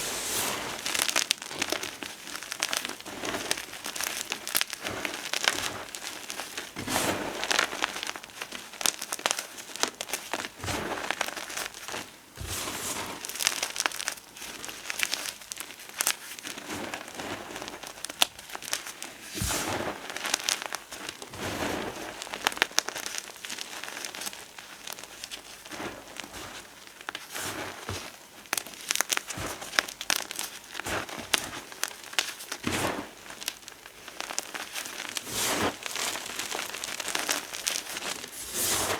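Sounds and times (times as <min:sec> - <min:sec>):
powder crunching and crackling: 0:00.0 - 0:38.9.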